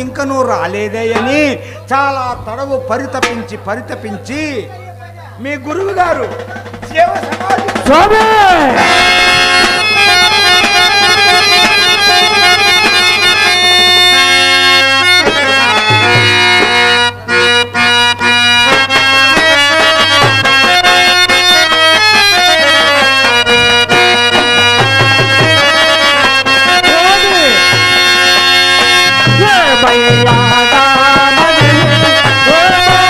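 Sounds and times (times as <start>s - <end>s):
harmonium melody: 0.0s - 33.0s.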